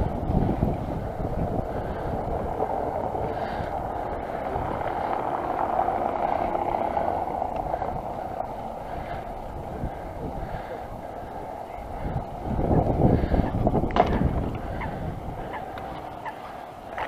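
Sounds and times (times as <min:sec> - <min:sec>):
bike tyres rolling on pavement: 0:00.0 - 0:17.0
wind on microphone: 0:00.0 - 0:17.0.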